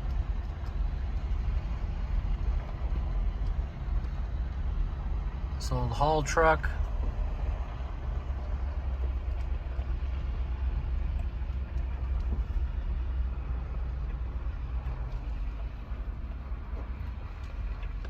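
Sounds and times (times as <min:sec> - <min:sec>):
truck engine and tyre rumble: 0:00.0 - 0:18.0.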